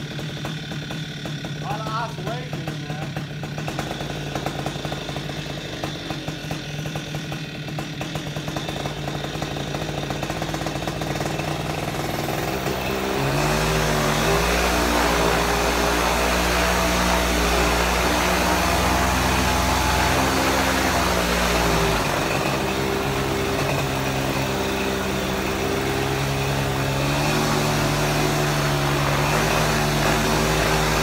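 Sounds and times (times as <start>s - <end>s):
two-stroke engine running: 0.0s - 31.0s.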